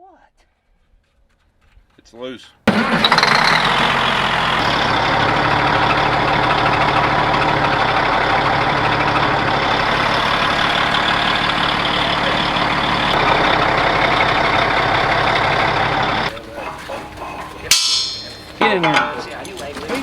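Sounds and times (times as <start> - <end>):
large engine idling: 2.7 - 20.0.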